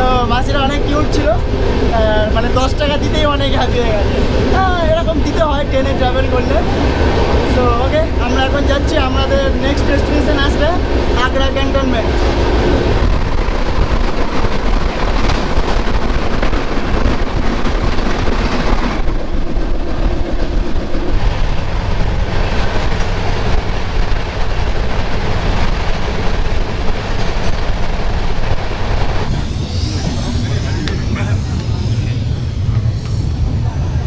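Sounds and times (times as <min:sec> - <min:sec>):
train wheels on rails: 0:00.0 - 0:34.0.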